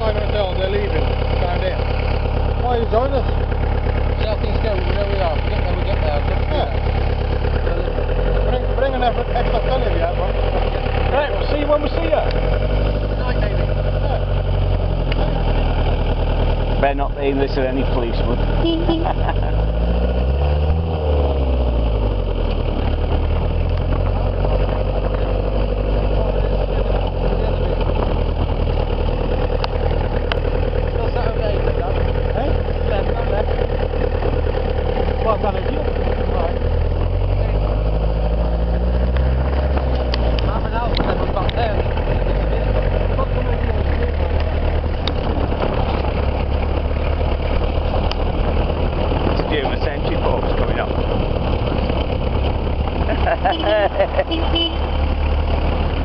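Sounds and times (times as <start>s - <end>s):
jeep engine driving: 0.0s - 56.0s.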